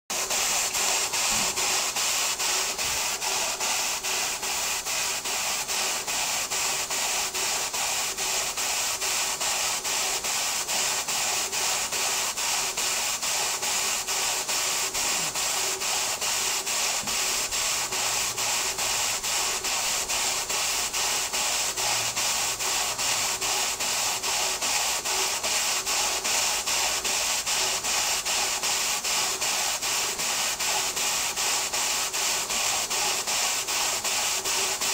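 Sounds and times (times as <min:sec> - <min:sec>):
continuous steam hiss: 0:00.1 - 0:34.9
steam engine exhaust beating: 0:00.1 - 0:34.9.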